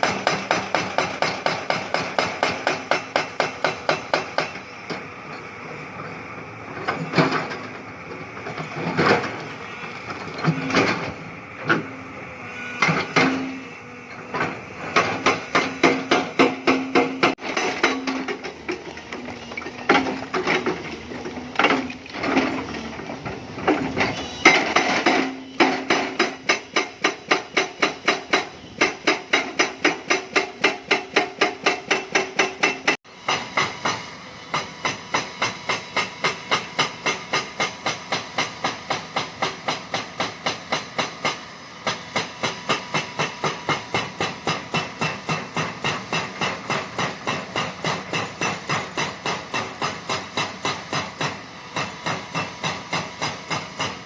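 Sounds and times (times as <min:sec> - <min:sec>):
hydraulic breaker hammering rock: 0:00.0 - 0:05.1, 0:06.8 - 0:54.0
excavator engine running: 0:00.1 - 0:54.0.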